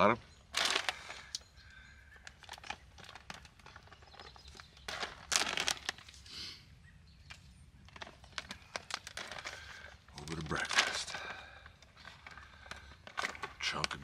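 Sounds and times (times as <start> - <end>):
plastic pouch crinkling: 0.5 - 6.3, 7.3 - 14.0.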